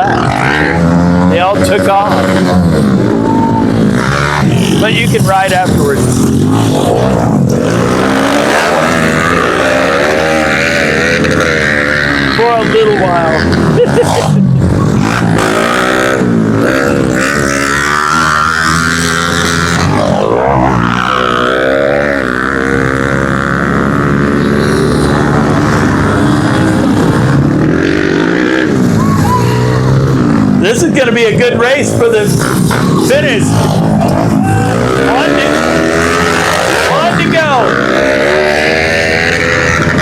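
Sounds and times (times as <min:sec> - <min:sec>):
pit bike engines revving: 0:00.0 - 0:40.0.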